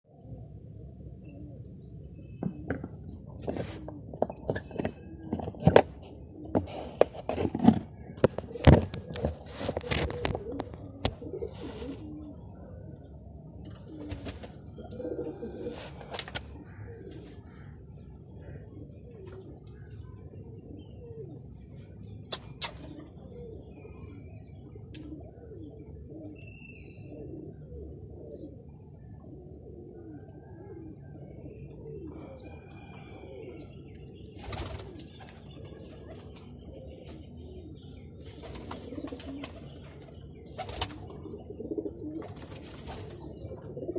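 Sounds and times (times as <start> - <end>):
pigeons cooing: 0.1 - 43.9.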